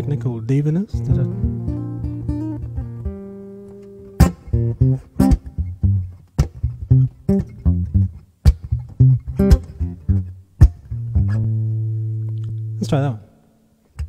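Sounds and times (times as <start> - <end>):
acoustic guitar played percussively: 1.0 - 12.8.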